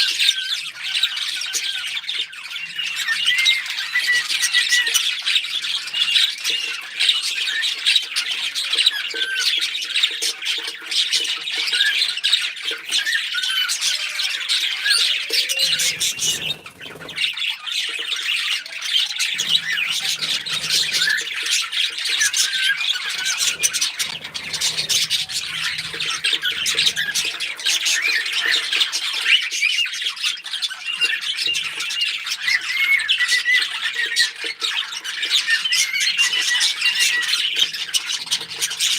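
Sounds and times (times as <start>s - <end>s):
parrots chirping and chattering: 0.0s - 38.9s.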